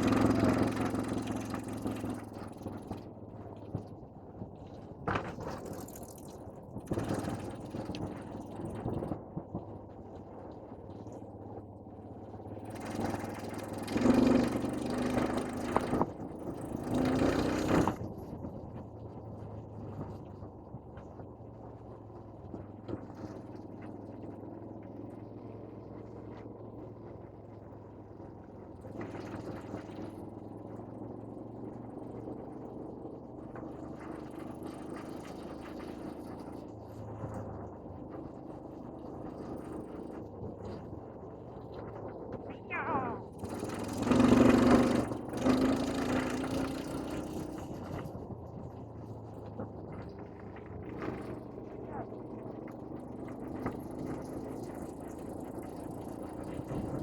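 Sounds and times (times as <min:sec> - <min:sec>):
vehicle engine running: 0:00.0 - 0:04.0, 0:04.6 - 0:57.0.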